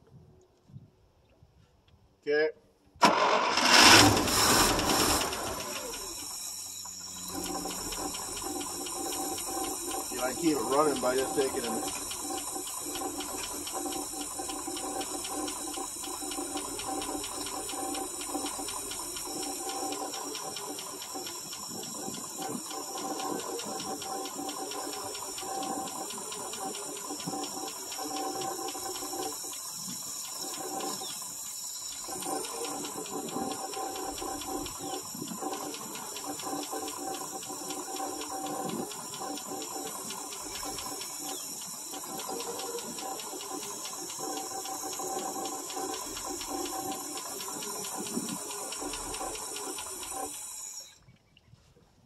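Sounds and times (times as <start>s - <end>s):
engine sputtering: 3.0s - 51.0s
light regular ticking: 4.2s - 50.9s.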